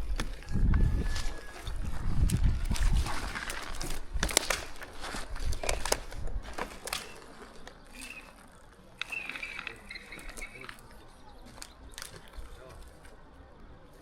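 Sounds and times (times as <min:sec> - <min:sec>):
twigs crackling and snapping: 0:00.0 - 0:14.0.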